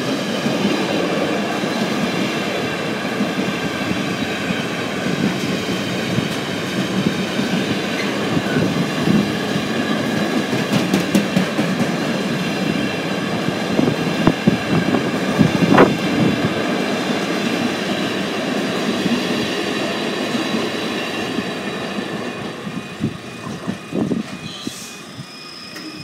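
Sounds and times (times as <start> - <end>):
freight train wagons rumbling: 0.0 - 24.8.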